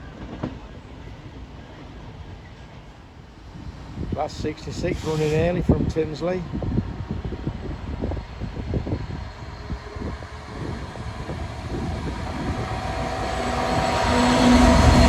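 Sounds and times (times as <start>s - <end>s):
diesel locomotive engine approaching: 0.0s - 15.0s.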